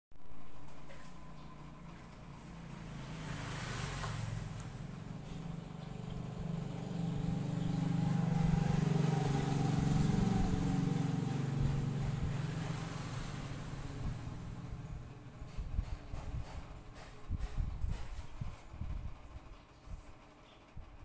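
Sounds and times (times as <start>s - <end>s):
vehicle engine humming: 0.2s - 18.0s.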